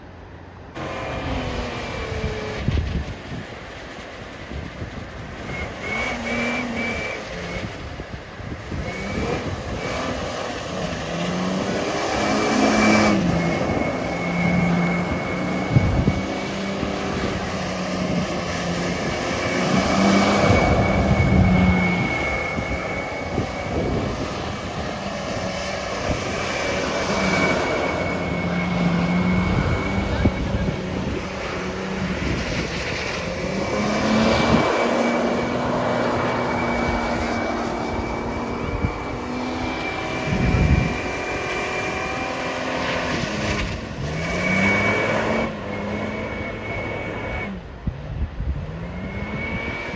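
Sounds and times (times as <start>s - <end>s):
engine running under load: 0.0s - 49.9s
tyre and wind noise: 0.8s - 49.9s.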